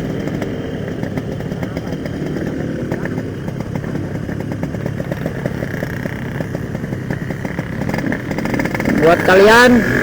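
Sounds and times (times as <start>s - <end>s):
two-stroke motorcycle engine running: 0.0s - 10.0s.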